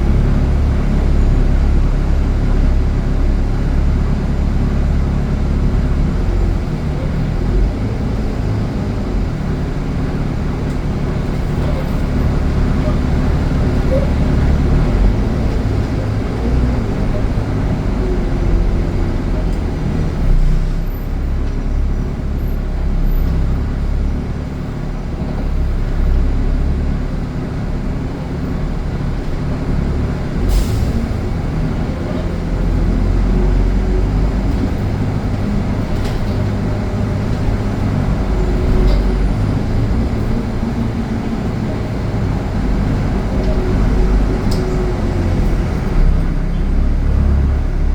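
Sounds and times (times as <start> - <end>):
road traffic passing: 0.0 - 47.9.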